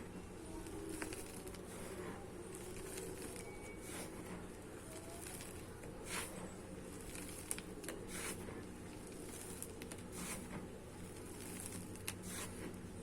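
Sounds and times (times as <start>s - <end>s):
low steady hum: 0.0s - 13.0s
dried mud crunching: 0.4s - 13.0s.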